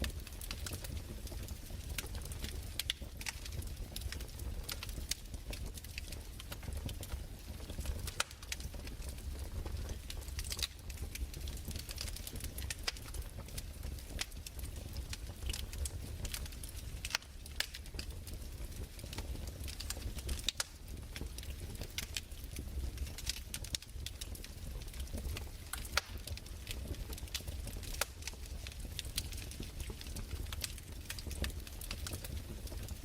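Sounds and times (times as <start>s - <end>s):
fire crackling and popping: 0.0s - 33.0s
low fire rumble: 0.0s - 33.0s.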